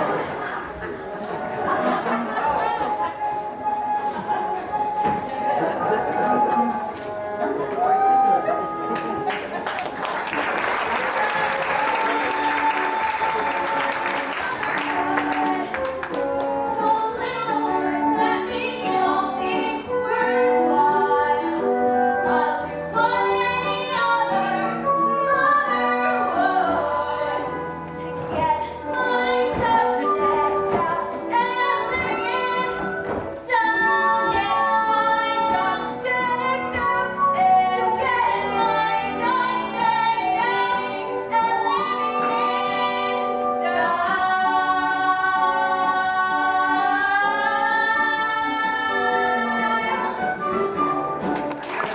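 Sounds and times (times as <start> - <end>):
instrumental accompaniment: 0.0 - 51.9.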